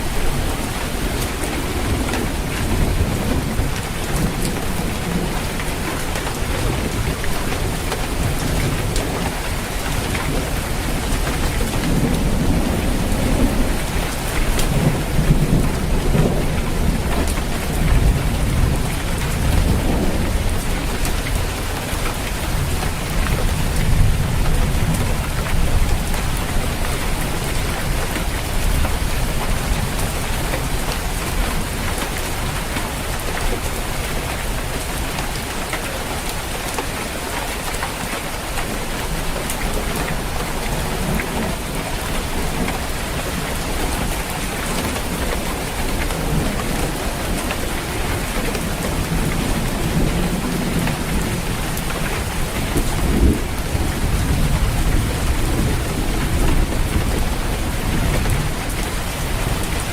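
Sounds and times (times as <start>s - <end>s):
low rumble of thunder: 0.0s - 37.3s, 38.4s - 59.9s
heavy rain on a roof: 0.0s - 59.9s.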